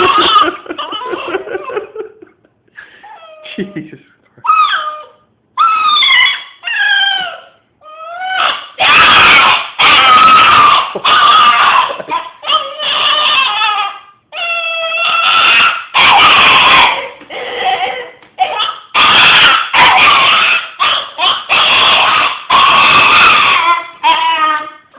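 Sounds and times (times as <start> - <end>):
dog howling: 4.5 - 24.9.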